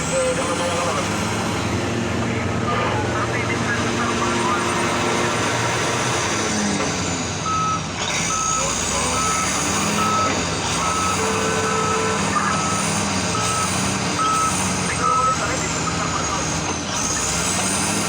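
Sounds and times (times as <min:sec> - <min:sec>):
heavy diesel machinery running: 0:00.0 - 0:18.0
truck reversing alarm beeping: 0:02.4 - 0:18.0.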